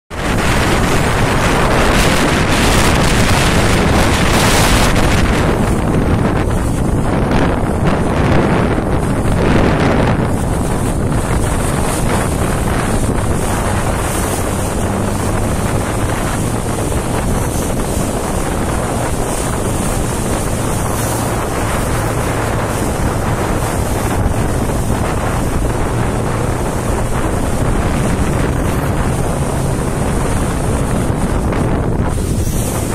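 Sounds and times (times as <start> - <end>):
low engine hum: 0.1 - 32.9
rushing water and spray: 0.1 - 32.9
wind buffeting microphone: 0.1 - 32.9.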